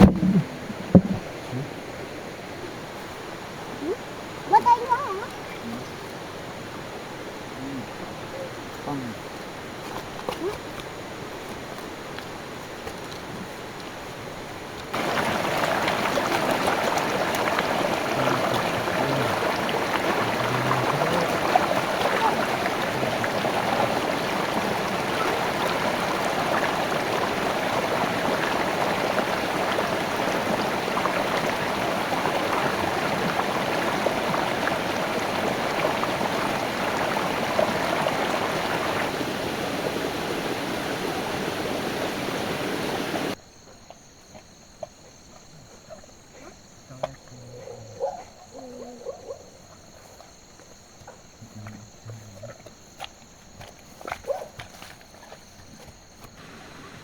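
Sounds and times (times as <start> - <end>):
stream water rushing over rocks: 0.0 - 43.4, 53.6 - 57.0.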